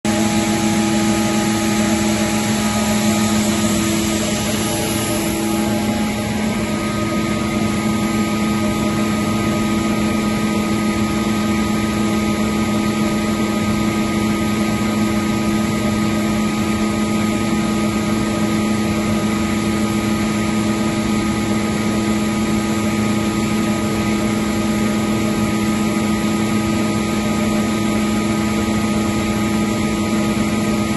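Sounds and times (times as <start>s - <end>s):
air compressor droning: 0.0s - 30.9s.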